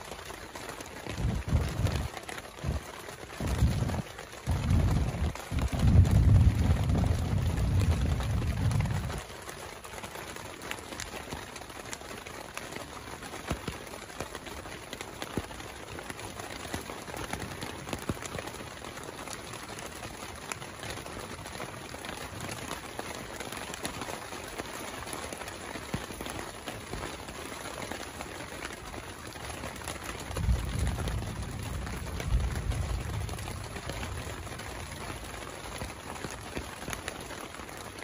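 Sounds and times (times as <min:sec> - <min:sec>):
heavy rain on a tent: 0:00.0 - 0:38.0.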